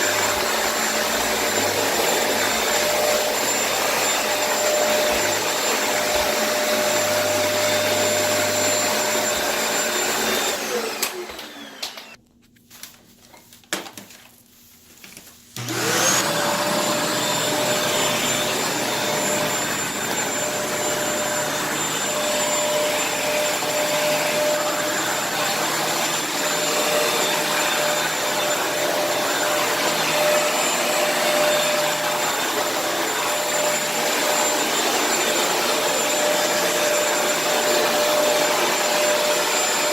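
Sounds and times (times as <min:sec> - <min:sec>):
vacuum cleaner whining: 0:00.0 - 0:12.2, 0:15.6 - 0:39.9
vacuum motor winding down: 0:00.0 - 0:12.2, 0:15.6 - 0:39.9.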